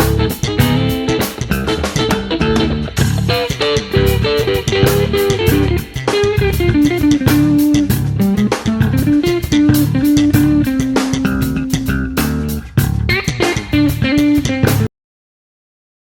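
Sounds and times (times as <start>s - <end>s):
bass guitar: 0.0s - 14.9s
drum kit beat: 0.0s - 14.9s
electric guitar melody: 0.0s - 14.9s.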